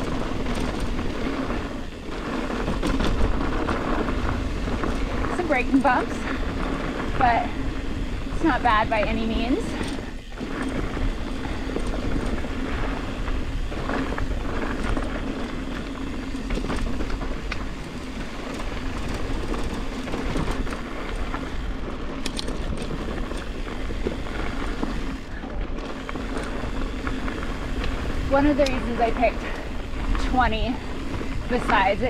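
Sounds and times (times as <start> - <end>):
bike rattling over bumps: 0.0 - 32.0
bike tyres rushing on dirt: 0.0 - 32.0.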